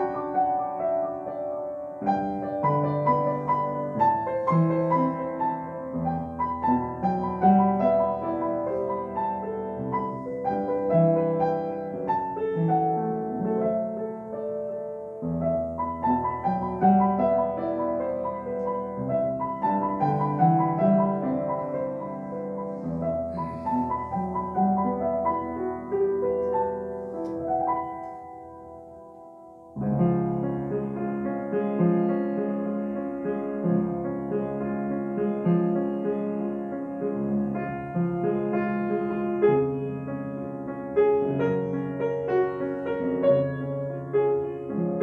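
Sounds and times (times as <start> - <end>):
solo piano carol: 0.0 - 45.0.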